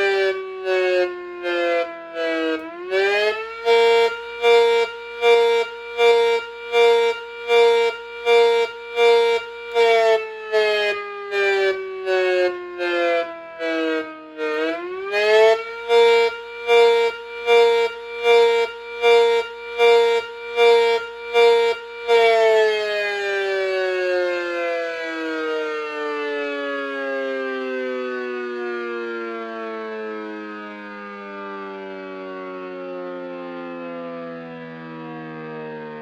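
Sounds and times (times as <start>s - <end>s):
pulsing siren winding down: 0.0s - 36.0s.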